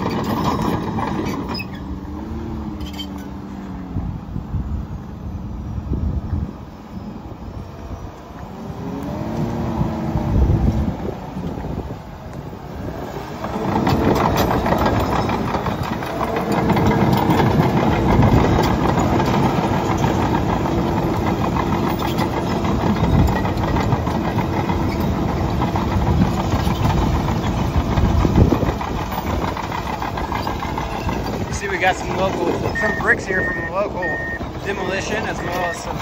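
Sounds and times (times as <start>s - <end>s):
tracks and rubble scraping: 0.0s - 3.9s, 8.2s - 36.0s
bulldozer diesel engine working: 0.0s - 36.0s.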